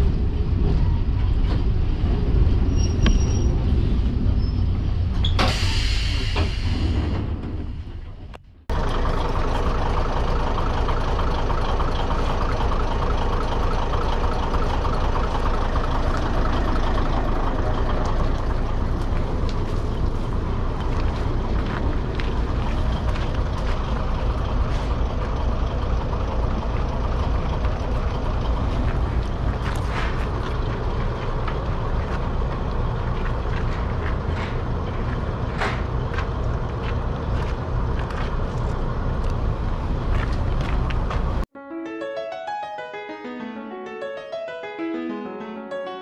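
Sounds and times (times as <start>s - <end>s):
railcar engine drone: 0.0s - 41.4s.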